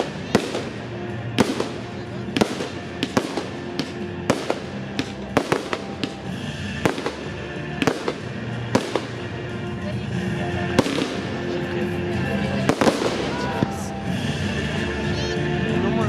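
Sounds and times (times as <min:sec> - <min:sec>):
music playing: 0:00.0 - 0:16.0.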